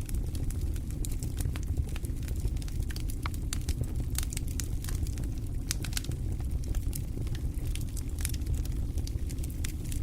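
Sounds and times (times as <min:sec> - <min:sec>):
fire crackling and popping: 0:00.0 - 0:10.0
low rumble of flames: 0:00.0 - 0:10.0.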